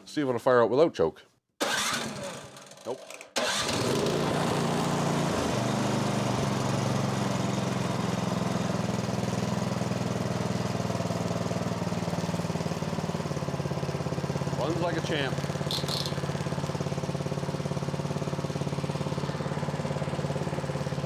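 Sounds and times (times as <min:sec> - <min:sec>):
small gas engine running: 0:01.6 - 0:21.0.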